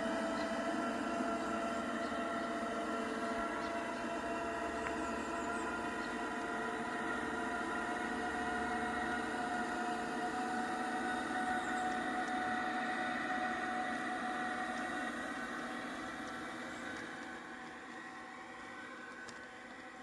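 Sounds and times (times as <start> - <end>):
diesel engine sound through small speaker: 0.0 - 20.0.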